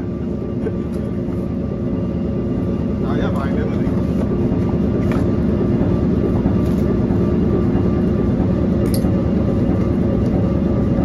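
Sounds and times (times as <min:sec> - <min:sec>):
constant hum: 0:00.0 - 0:11.0
heavy machinery drone: 0:00.0 - 0:11.0.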